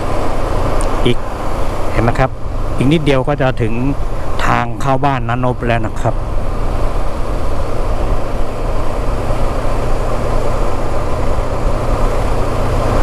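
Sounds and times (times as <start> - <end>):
road noise: 0.0 - 13.0
wind noise: 0.0 - 13.0.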